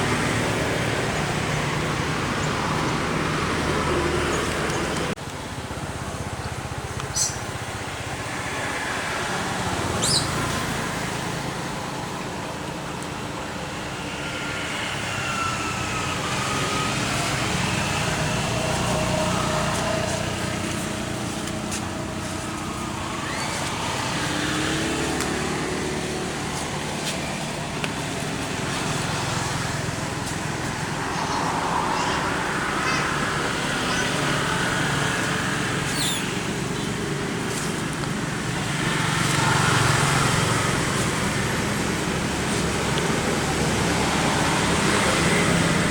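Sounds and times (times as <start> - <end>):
outdoor traffic noise: 0.0 - 45.9.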